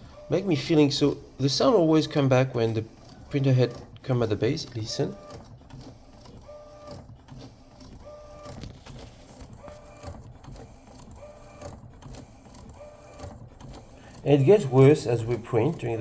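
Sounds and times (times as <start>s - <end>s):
printer carriage running: 0.0s - 16.0s.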